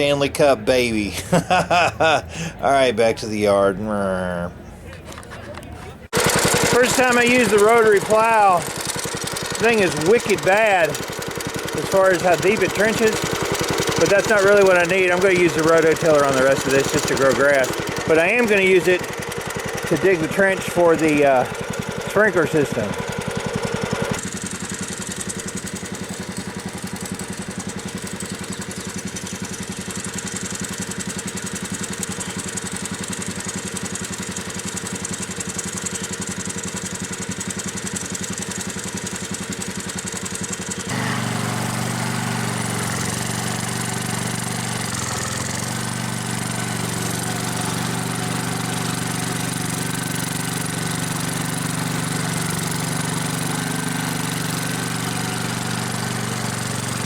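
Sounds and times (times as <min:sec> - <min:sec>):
tractor engine under load: 0:00.0 - 0:04.0, 0:05.0 - 0:57.0.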